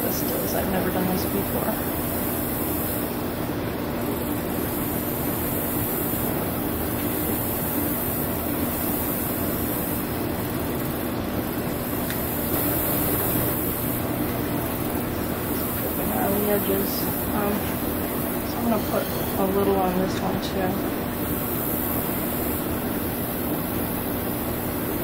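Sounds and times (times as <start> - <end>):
even hiss: 0.0 - 25.0
steady mechanical hum: 0.0 - 25.0.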